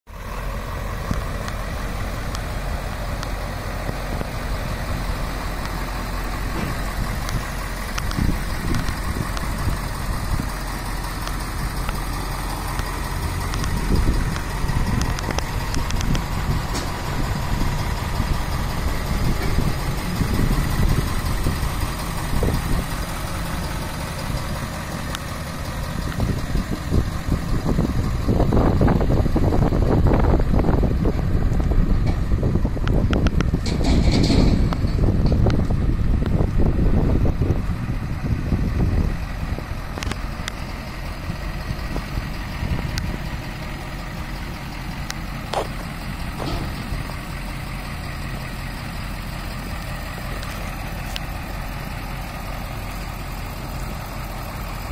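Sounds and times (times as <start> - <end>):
truck engine idling: 0.1 - 54.9
wind rumbling on microphone: 0.8 - 48.3.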